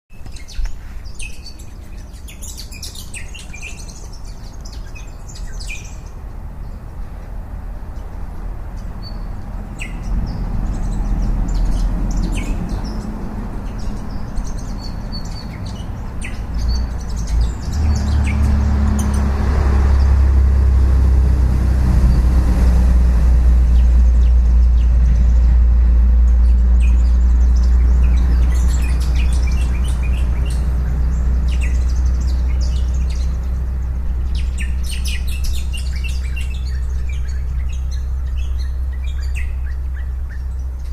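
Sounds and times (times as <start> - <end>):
vehicle low rumble: 0.1 - 40.9
wild birds chirping: 0.1 - 40.9.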